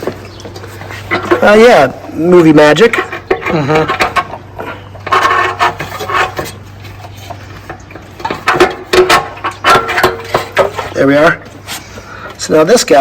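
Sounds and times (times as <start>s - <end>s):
metal tools clinking and rattling: 0.0s - 2.0s, 2.6s - 11.4s.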